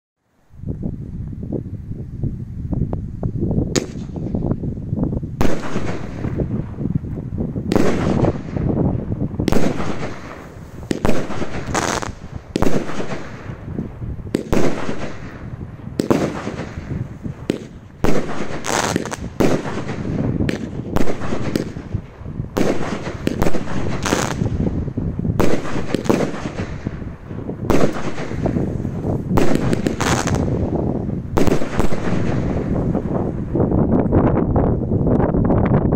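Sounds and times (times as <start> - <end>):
firework bangs: 3.6 - 4.6, 5.4 - 33.6.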